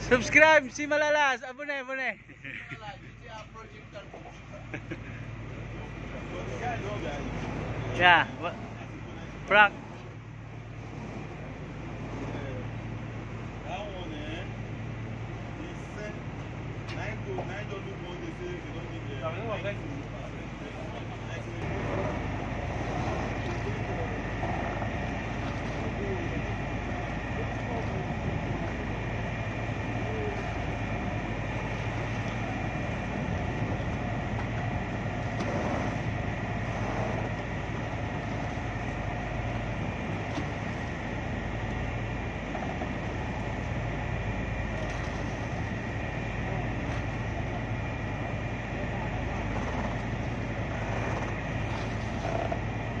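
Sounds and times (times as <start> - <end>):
boat engines humming with whine: 0.0 - 53.0.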